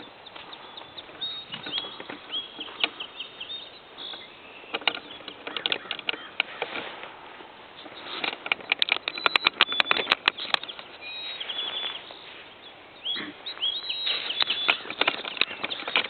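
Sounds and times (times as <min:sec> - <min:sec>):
bird trill: 0:00.0 - 0:06.7, 0:07.7 - 0:16.0
songbirds chirping: 0:00.0 - 0:16.0.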